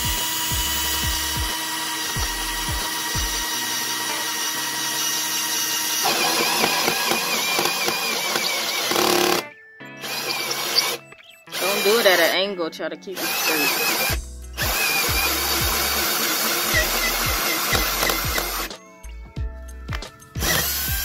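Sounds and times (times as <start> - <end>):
drill hole saw cutting plywood: 0.0 - 12.3, 13.2 - 18.7, 20.4 - 21.0.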